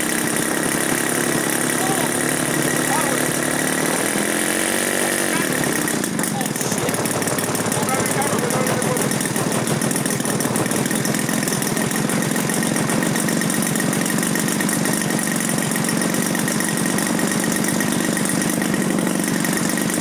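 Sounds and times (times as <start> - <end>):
model aircraft engine idling: 0.0 - 20.0.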